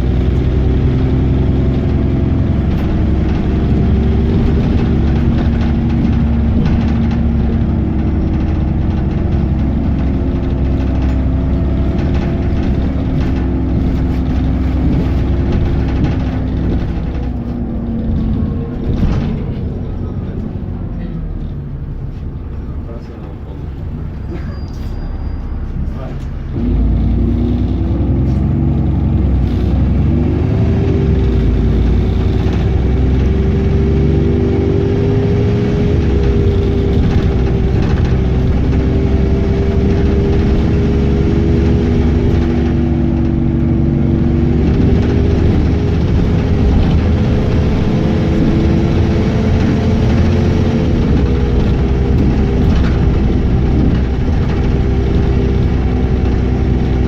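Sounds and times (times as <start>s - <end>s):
bus drivetrain droning: 0.0s - 57.0s.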